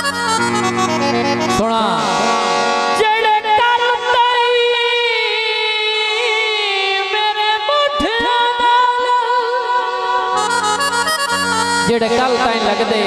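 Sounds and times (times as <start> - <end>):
harmonium chords: 0.0 - 13.0
man singing into a microphone: 1.4 - 13.0.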